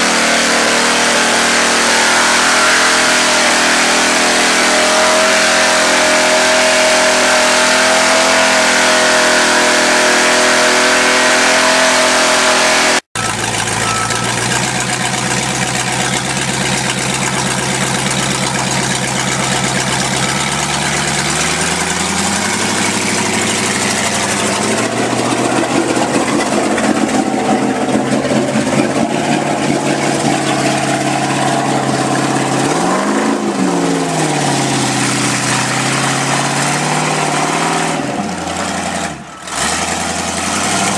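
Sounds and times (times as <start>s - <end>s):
truck engine revving: 0.0s - 40.9s
tyres churning mud: 0.0s - 40.9s.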